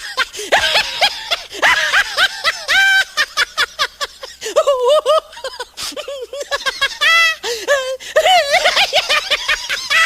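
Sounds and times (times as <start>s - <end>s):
high-pitched snickering laugh: 0.0s - 10.0s.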